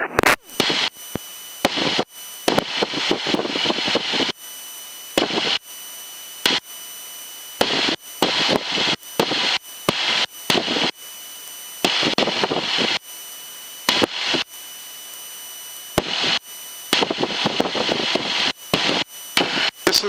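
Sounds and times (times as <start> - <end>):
faint electrical whine: 0.0 - 20.0
radio crackling hiss bursts: 0.0 - 20.0.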